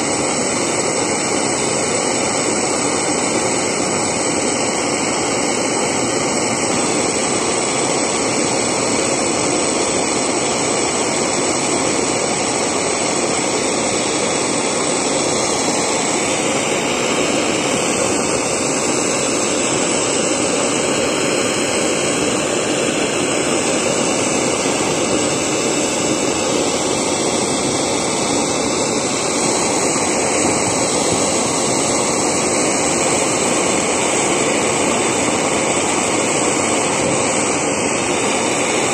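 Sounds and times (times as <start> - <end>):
blowtorch flame rushing: 0.0 - 38.9.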